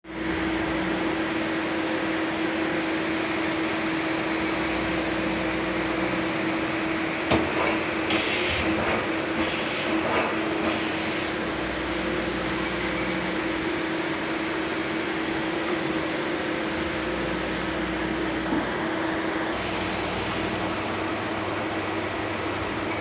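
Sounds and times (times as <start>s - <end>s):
cnc machine humming: 0.2s - 23.0s.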